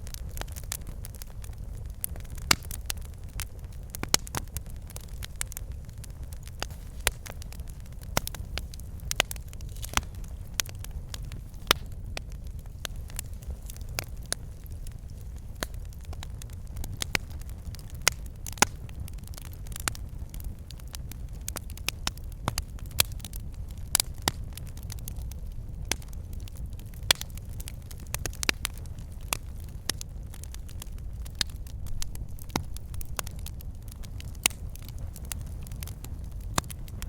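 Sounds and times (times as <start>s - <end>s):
logs crackling and popping: 0.0s - 37.0s
roar of flames: 0.0s - 37.0s.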